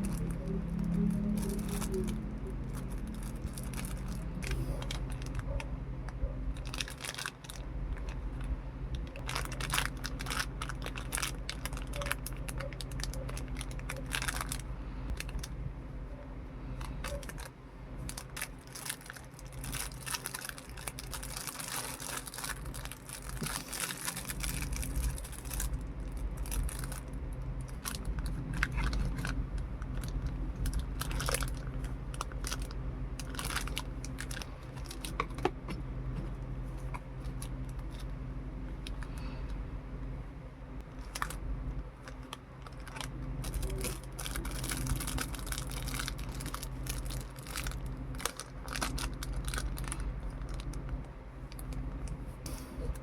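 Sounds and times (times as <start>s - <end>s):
packaging crinkling and rustling: 0.0s - 15.6s, 16.8s - 38.1s, 40.9s - 52.3s
steady low hum: 0.0s - 53.0s.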